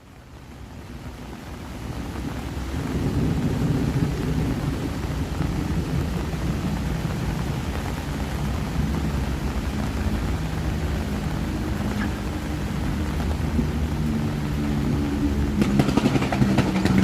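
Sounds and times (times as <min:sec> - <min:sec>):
engine hum: 0:00.0 - 0:17.0
road traffic rumble: 0:00.0 - 0:17.0
steady rain: 0:00.0 - 0:17.0.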